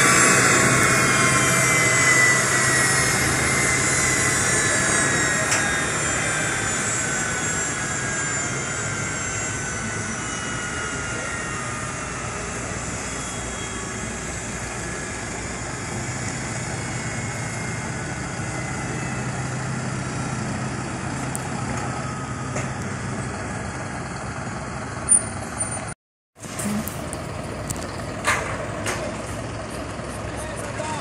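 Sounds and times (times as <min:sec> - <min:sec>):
engine drone with high whine: 0:00.0 - 0:31.0.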